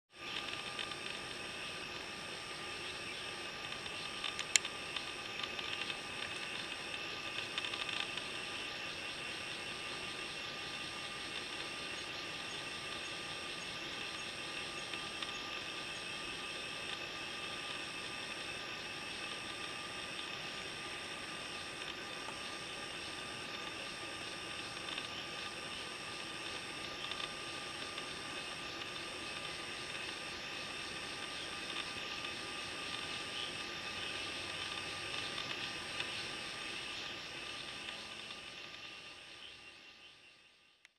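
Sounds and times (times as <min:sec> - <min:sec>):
high insect trill: 0:00.1 - 0:40.8
steady hiss: 0:00.1 - 0:40.9.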